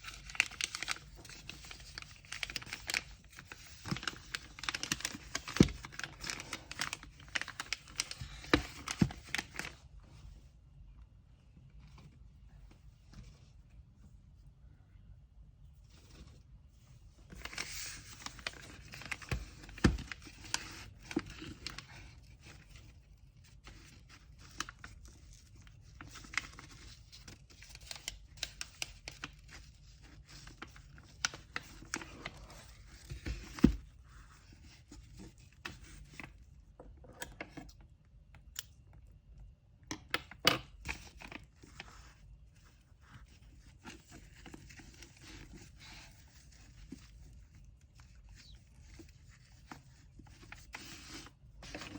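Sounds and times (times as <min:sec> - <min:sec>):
paper rustling and crinkling: 0:00.0 - 0:10.3, 0:15.8 - 0:36.6, 0:40.7 - 0:51.9.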